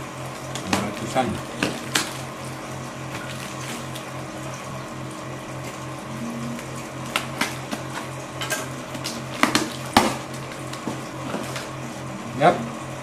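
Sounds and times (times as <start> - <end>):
pulsing low hum: 2.3 - 13.0.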